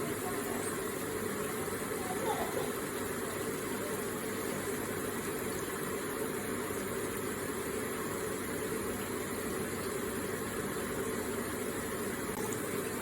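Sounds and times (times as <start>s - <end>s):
water running steadily: 0.0s - 13.0s.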